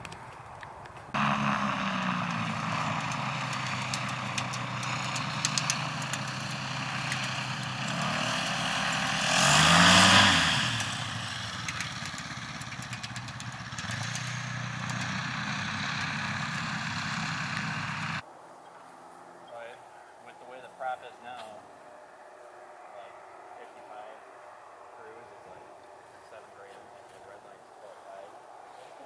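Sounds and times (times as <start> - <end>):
aircraft engine and propeller: 1.0 - 18.2, 22.8 - 29.0.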